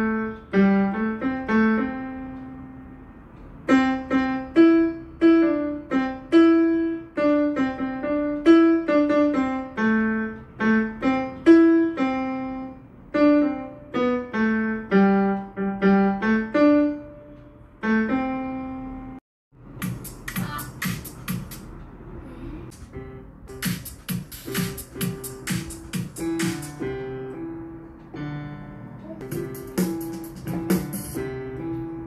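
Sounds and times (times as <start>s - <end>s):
keyboard piano melody: 0.0s - 22.0s, 22.7s - 32.0s.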